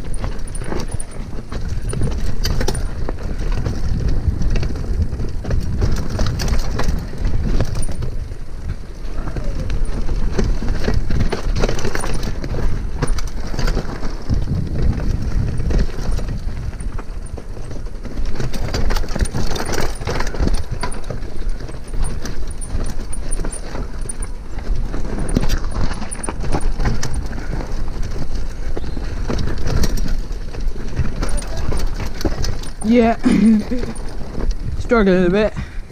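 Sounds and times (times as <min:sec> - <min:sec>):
bike rattling and clattering: 0:00.0 - 0:35.9
wind buffeting microphone: 0:00.0 - 0:35.9.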